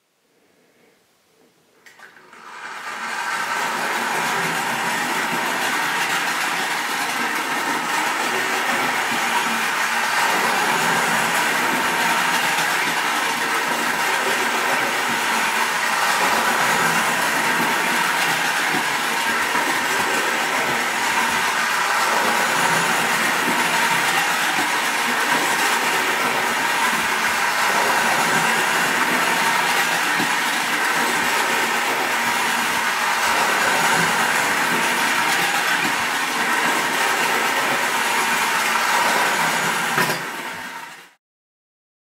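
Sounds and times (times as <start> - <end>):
toy train running on metal track: 2.4 - 41.2.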